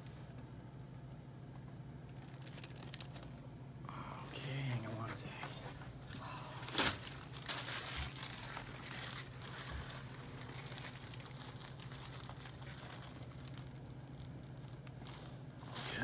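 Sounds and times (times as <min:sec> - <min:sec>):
low steady hum: 0:00.0 - 0:16.0
paper crinkling and rustling: 0:02.0 - 0:03.5, 0:04.2 - 0:16.0.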